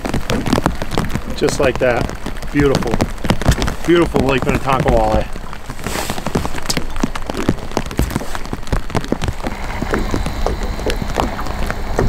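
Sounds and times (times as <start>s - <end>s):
water pattering on boat: 0.0s - 12.0s.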